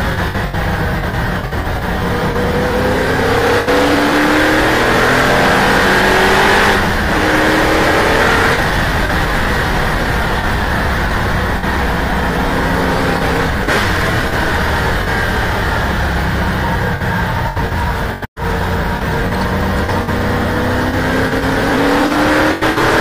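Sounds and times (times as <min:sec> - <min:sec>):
race car engine accelerating: 0:00.0 - 0:23.0
road and wind noise: 0:00.0 - 0:23.0.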